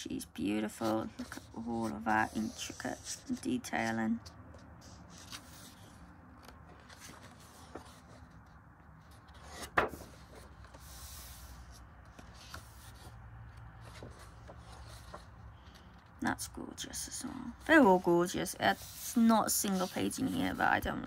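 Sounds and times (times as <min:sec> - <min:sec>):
paper pages rustling: 0:00.7 - 0:16.1, 0:17.4 - 0:20.9.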